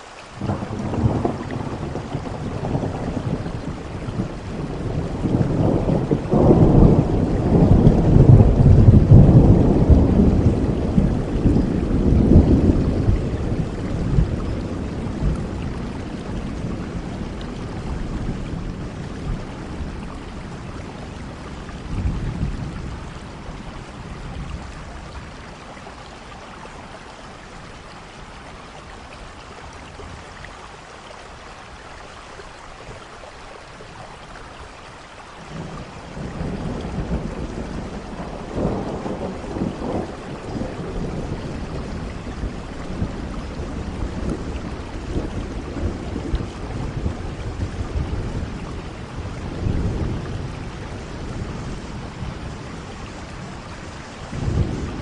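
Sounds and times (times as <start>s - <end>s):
steady rain: 0.0s - 55.0s
rolling thunder: 0.4s - 25.8s, 35.5s - 55.0s.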